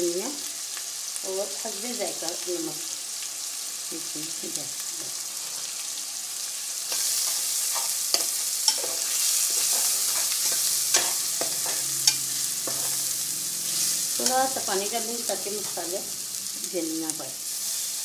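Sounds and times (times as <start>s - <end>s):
sauce sizzling in hot oil: 0.0s - 18.0s.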